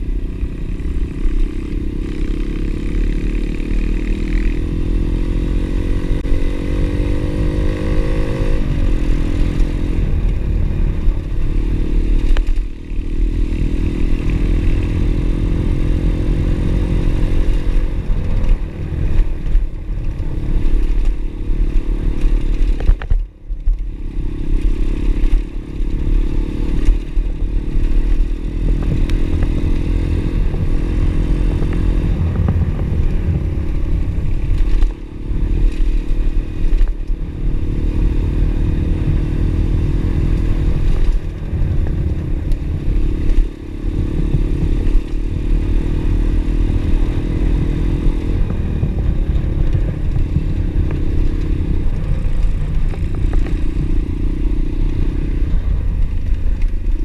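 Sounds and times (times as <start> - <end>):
motorbike engine revving: 0.0 - 23.0, 23.7 - 57.0.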